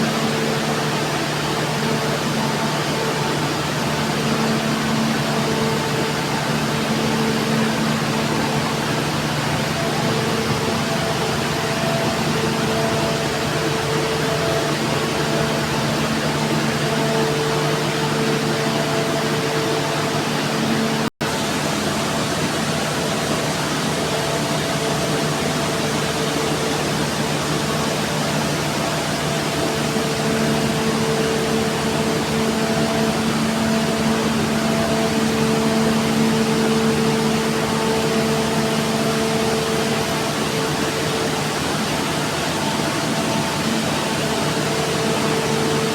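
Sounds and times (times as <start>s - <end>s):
large machinery running: 0.0s - 45.9s.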